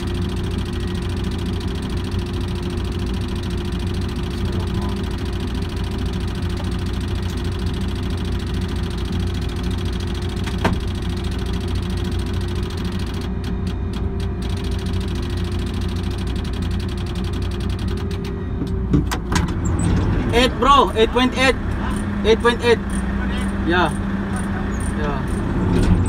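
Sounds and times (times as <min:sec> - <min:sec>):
crane diesel engine running: 0:00.0 - 0:26.0.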